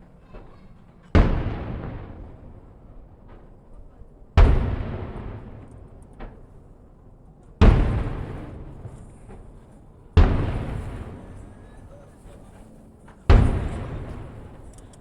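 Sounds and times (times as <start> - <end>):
echoing rumble: 0.0 - 15.0
firework booms: 0.0 - 15.0
firework crack: 0.0 - 15.0.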